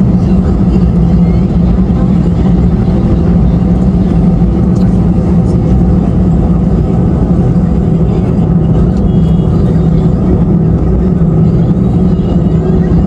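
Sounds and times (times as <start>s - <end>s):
airliner engines from cabin: 0.0s - 13.0s.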